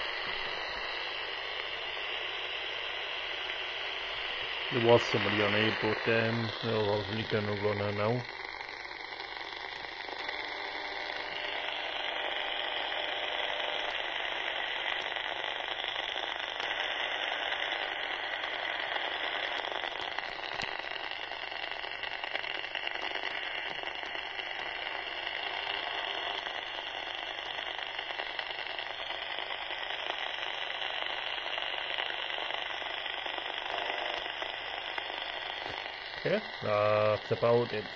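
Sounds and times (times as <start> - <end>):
radio speaker hissing: 0.0 - 37.9.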